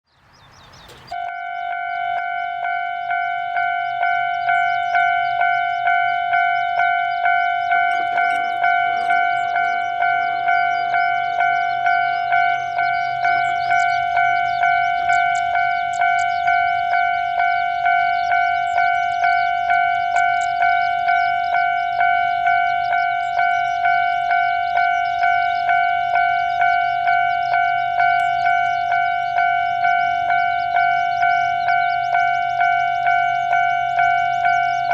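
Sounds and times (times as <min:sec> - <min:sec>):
level-crossing warning bell ringing: 0:00.7 - 0:34.9.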